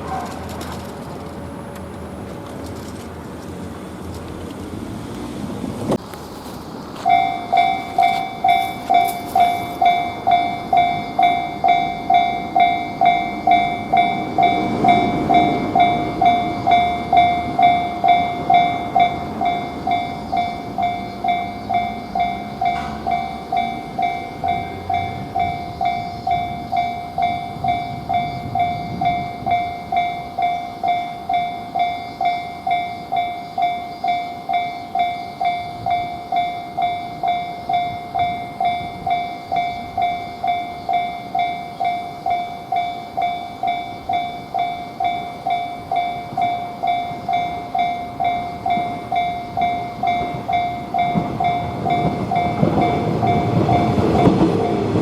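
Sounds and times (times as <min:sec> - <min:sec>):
train rumbling past: 0:00.0 - 0:55.0
level crossing bell clanging: 0:07.0 - 0:55.0.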